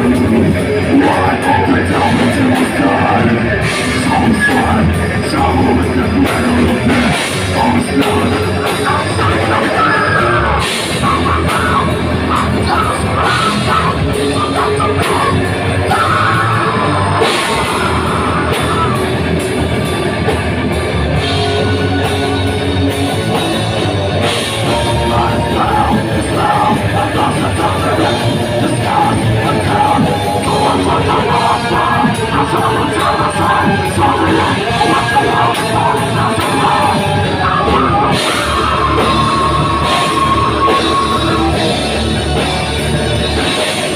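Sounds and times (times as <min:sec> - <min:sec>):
heavy metal band playing: 0:00.0 - 0:43.9.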